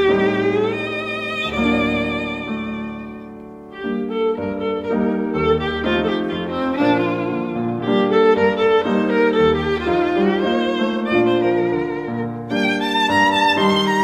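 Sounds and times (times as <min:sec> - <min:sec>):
low musical accompaniment: 0:00.0 - 0:14.0
violin playing slow notes: 0:00.0 - 0:14.0.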